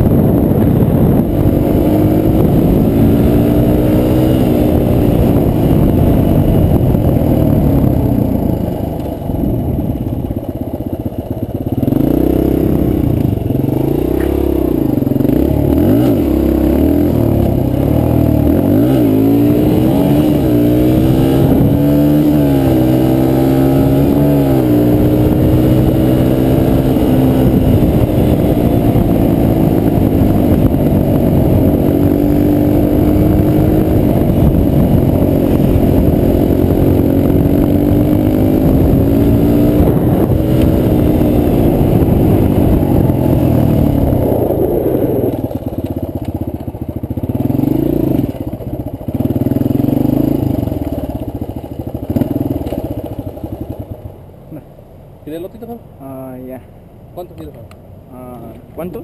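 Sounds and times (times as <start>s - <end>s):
dirt bike engine revving: 0.0s - 53.8s.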